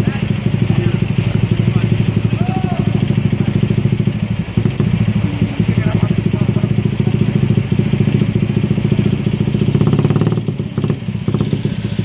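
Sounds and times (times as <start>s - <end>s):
diesel truck engine labouring: 0.0s - 12.0s.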